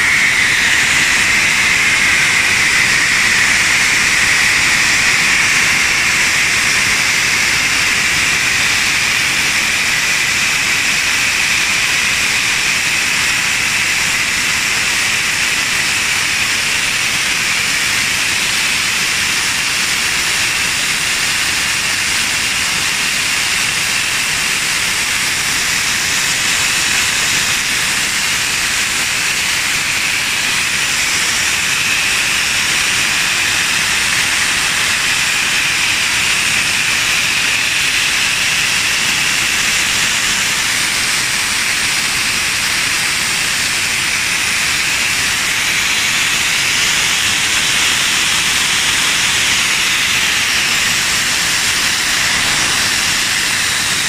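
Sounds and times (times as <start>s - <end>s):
gas jetting with loud hiss: 0.0s - 54.0s.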